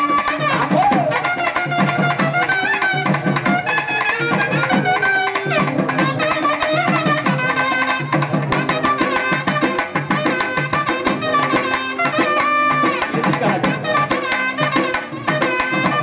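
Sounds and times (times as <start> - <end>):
rapid drumming: 0.0 - 16.0
reed wind instrument melody: 0.0 - 16.0.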